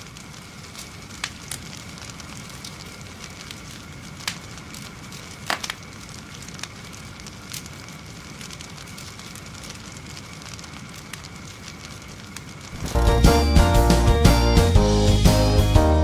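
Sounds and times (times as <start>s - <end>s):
fire burning: 0.0s - 16.0s
fire crackling and popping: 0.0s - 16.0s.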